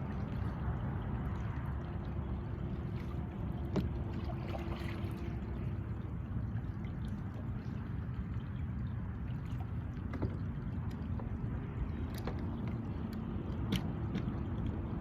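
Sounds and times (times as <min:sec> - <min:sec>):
steady low rumble: 0:00.0 - 0:15.0
water splashing and trickling: 0:00.0 - 0:15.0.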